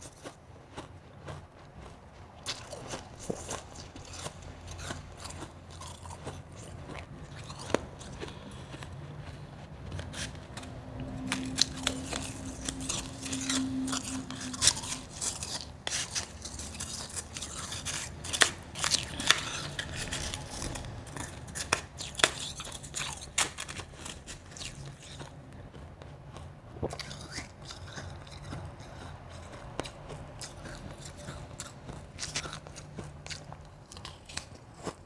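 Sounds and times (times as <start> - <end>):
ice being chewed: 0.0 - 35.0.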